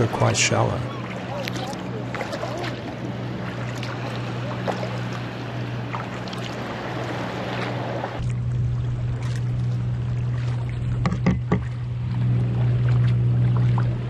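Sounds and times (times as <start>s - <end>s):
paddle strokes splashing: 0.0s - 14.0s
steady low hum: 0.0s - 14.0s
water lapping at hull: 0.0s - 14.0s.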